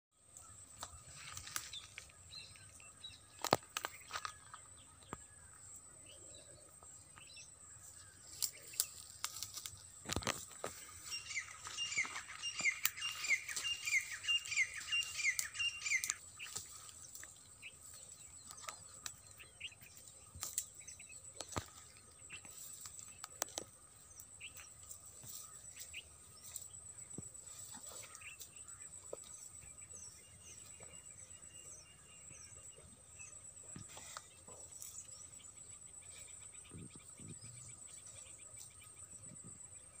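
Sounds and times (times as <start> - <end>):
small birds chirping: 0.2 - 40.0.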